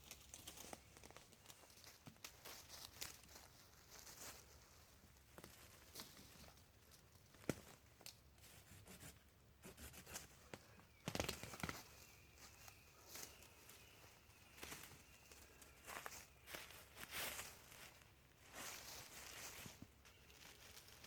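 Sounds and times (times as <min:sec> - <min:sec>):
dry twigs and leaves crackling: 0:00.0 - 0:08.4, 0:10.4 - 0:21.0.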